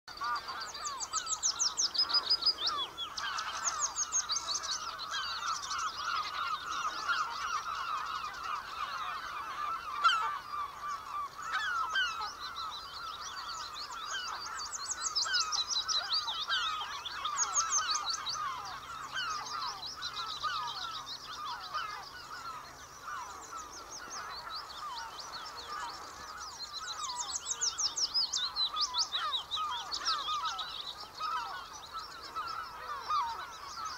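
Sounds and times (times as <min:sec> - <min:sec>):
chorus of bird chirps and calls: 0:00.0 - 0:33.9.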